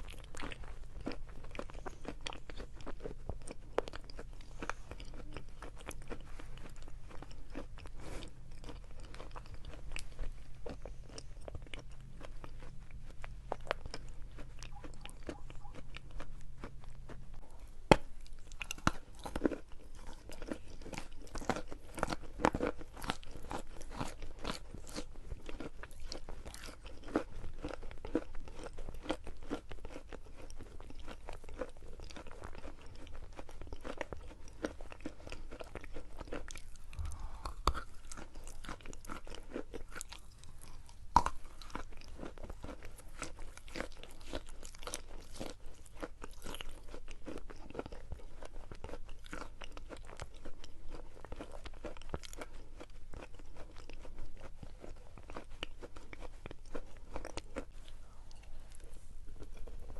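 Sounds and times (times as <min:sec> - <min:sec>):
person chewing chalk crunching: 0:00.0 - 0:59.9.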